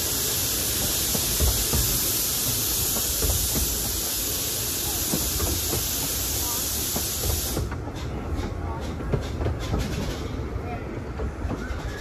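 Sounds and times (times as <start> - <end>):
steam locomotive hissing: 0.0 - 12.0
coach wheels knocking on track: 0.6 - 12.0.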